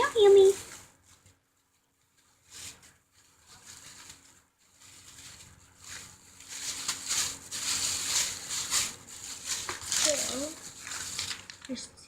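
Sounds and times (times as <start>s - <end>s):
package rustling and crinkling: 0.0s - 12.0s.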